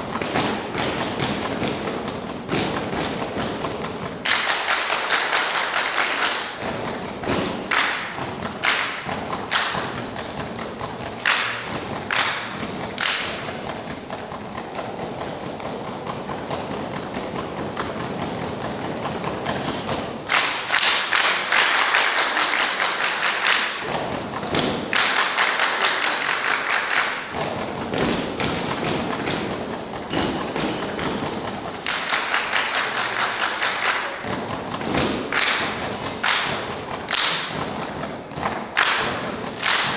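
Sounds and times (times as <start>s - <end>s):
body percussion thumps: 0.0s - 4.7s, 6.4s - 21.5s, 23.6s - 25.4s, 27.0s - 33.4s, 34.0s - 39.9s
group hand clapping: 0.0s - 39.9s.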